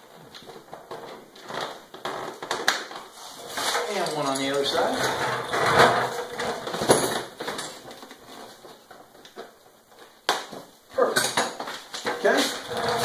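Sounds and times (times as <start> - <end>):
parts clicking and rattling on metal frame: 0.3 - 10.1, 11.0 - 13.0.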